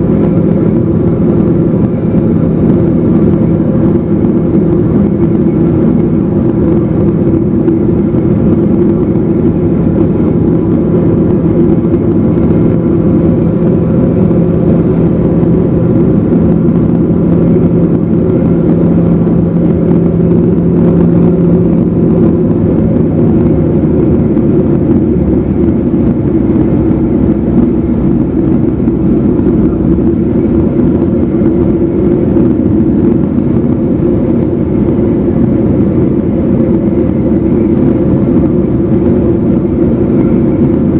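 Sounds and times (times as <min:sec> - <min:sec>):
light aircraft engine drone: 0:00.0 - 0:40.9.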